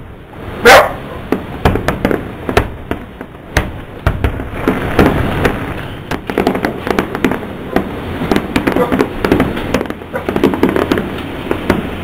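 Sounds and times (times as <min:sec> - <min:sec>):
fireworks bangs: 0:01.2 - 0:12.0
fireworks crackling: 0:01.2 - 0:12.0.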